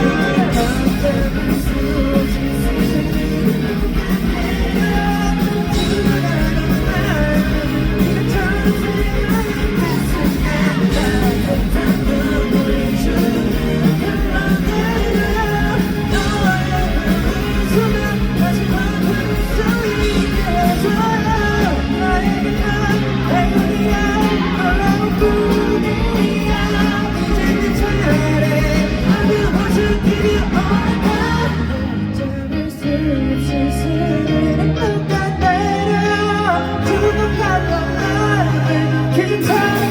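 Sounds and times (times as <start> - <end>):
live pop-rock band with singing: 0.0 - 39.9.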